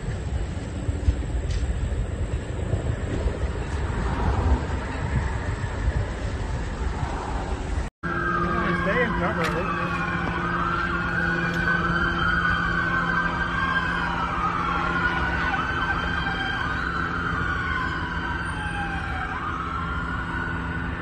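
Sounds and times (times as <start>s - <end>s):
emergency sirens wailing: 0.0s - 21.0s.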